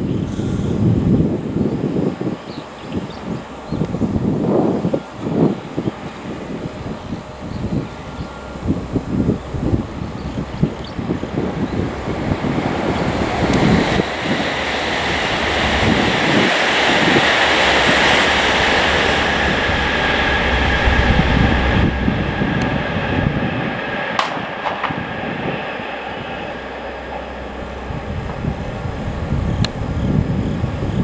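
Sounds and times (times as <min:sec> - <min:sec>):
rushing mechanical noise: 0:00.0 - 0:31.0
wind buffeting microphone: 0:00.0 - 0:31.0.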